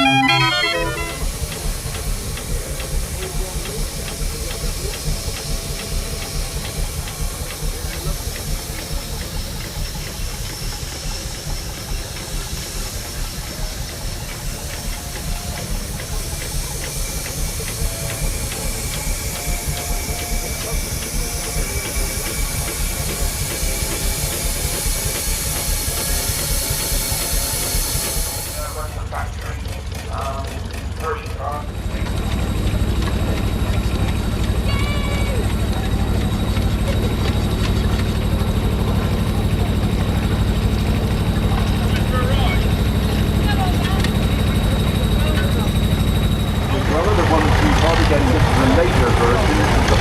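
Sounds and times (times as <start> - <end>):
steam engine hissing: 0.0 - 50.0.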